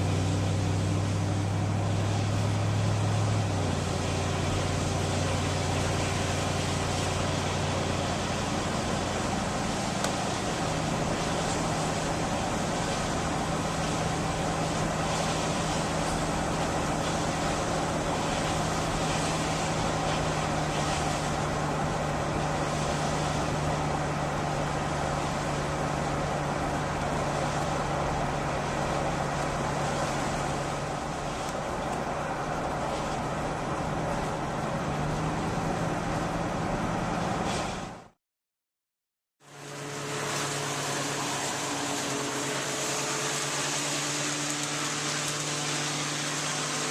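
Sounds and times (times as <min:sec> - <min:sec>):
machine drone with low hum: 0:00.0 - 0:38.0.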